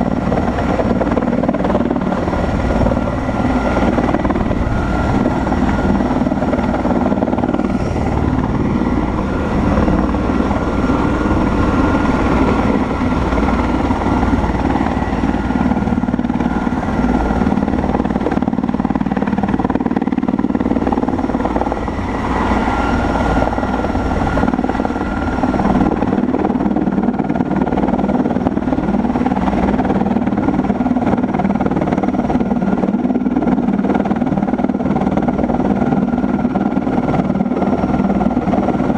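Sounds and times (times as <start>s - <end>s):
helicopter rotor rumble: 0.0s - 38.9s
helicopter turbine whine: 0.0s - 38.9s.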